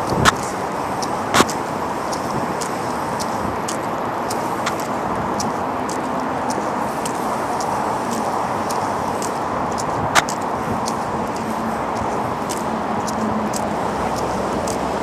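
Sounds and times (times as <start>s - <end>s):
road vehicle noise: 0.0s - 15.0s.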